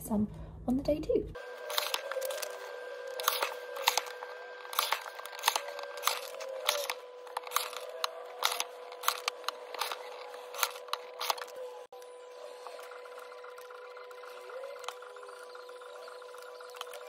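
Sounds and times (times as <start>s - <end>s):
paper labels clicking and rustling: 1.4s - 12.0s, 12.6s - 17.0s.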